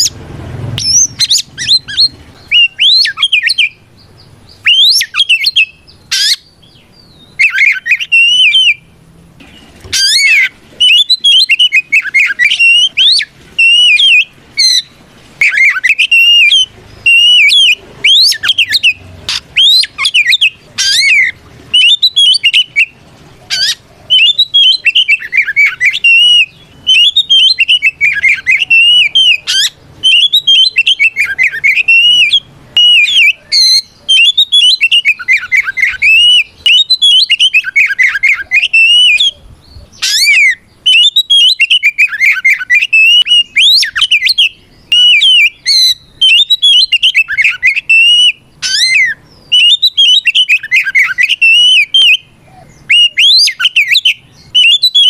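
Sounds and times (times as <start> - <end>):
magpie-robin singing whistled song: 0.8 - 8.9, 9.9 - 55.0.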